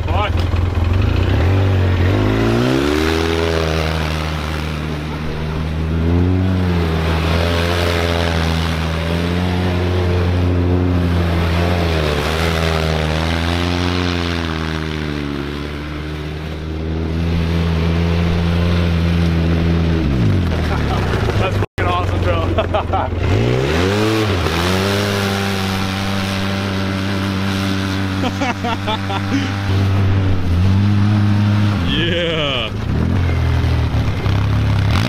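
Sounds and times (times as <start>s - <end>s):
snowmobile engine revving: 0.0s - 35.0s.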